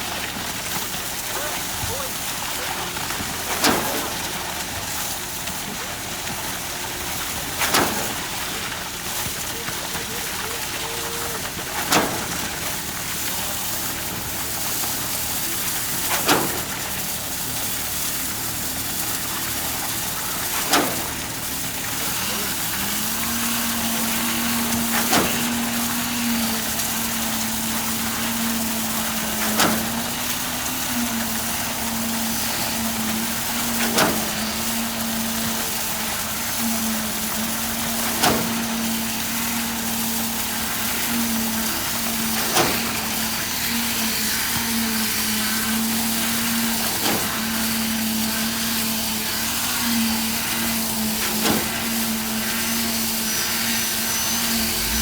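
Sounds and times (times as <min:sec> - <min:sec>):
heavy machinery humming: 0:00.0 - 0:55.0.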